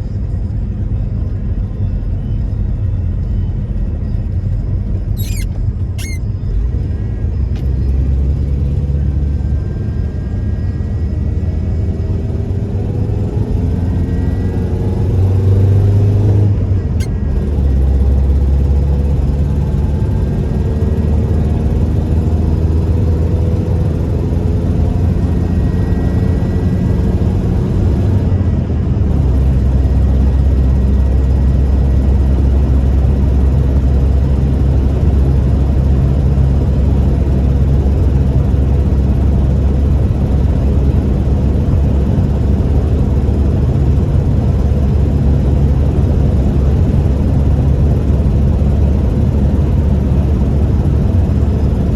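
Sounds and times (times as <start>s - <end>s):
engine and road noise drone: 0.0s - 51.9s.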